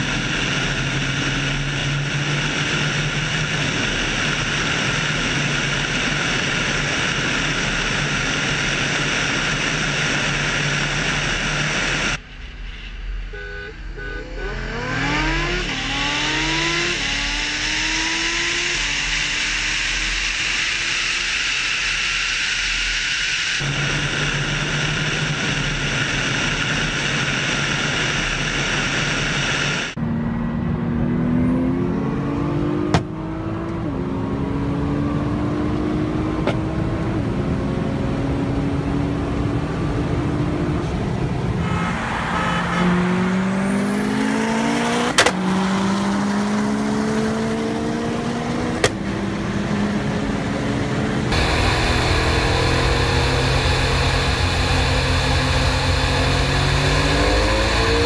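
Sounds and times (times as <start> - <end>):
car engine accelerating through gears: 0.0 - 12.2, 14.0 - 28.0, 28.7 - 58.0.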